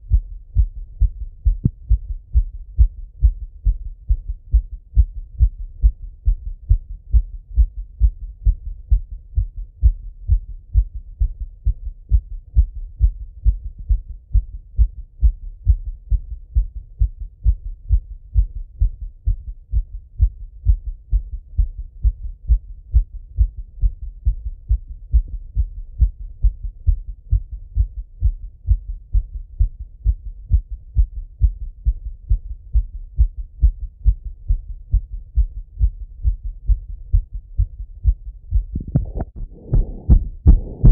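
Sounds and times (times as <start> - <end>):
heartbeat through stethoscope: 0.0 - 40.9.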